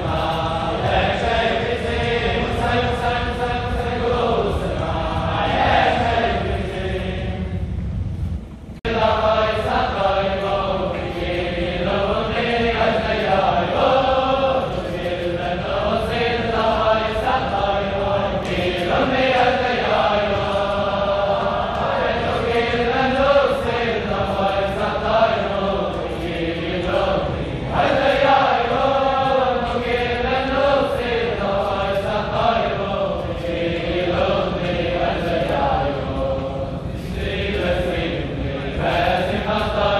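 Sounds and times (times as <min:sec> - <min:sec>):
men singing in unison: 0:00.0 - 0:07.4, 0:08.9 - 0:39.9.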